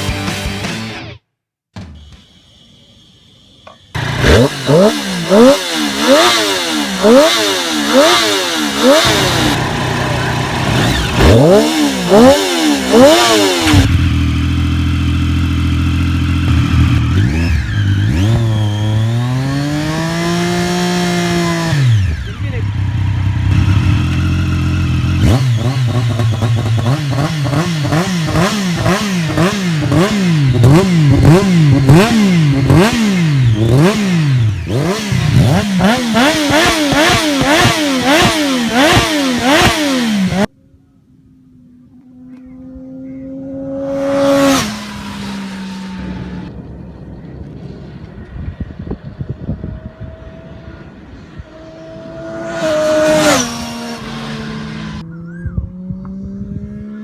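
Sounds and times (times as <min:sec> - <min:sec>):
motorcycle engine revving in blips: 0:03.6 - 0:40.6, 0:41.8 - 0:57.0
engine passing by: 0:04.0 - 0:40.5, 0:41.9 - 0:57.0.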